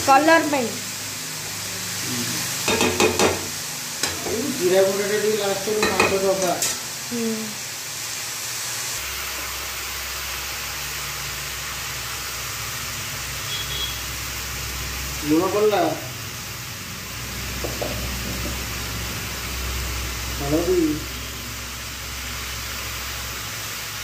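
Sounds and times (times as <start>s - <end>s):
broccoli sizzling in a pan: 0.0s - 24.0s.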